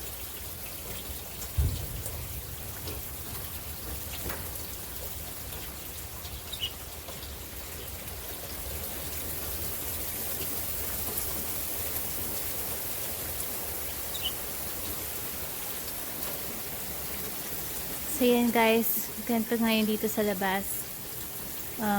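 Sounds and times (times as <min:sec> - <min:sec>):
rain falling: 0:00.0 - 0:21.9.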